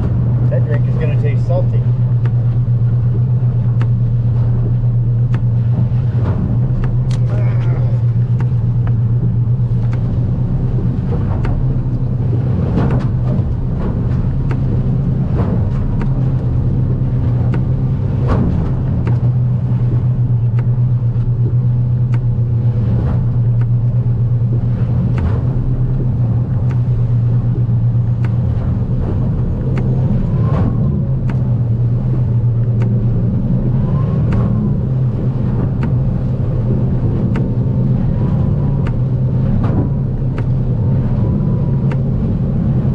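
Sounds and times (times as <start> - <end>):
hull slapping on waves: 0.0 - 42.9
outboard engine droning: 0.0 - 42.9.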